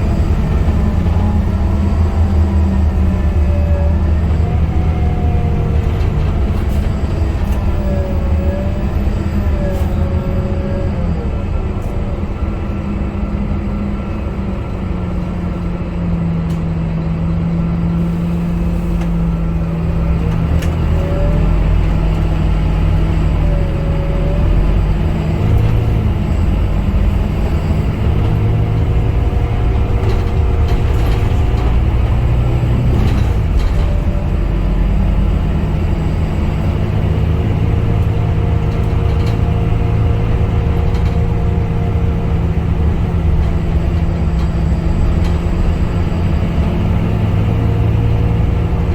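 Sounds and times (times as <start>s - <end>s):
bus diesel engine droning: 0.0s - 48.9s
low road rumble: 0.0s - 48.9s.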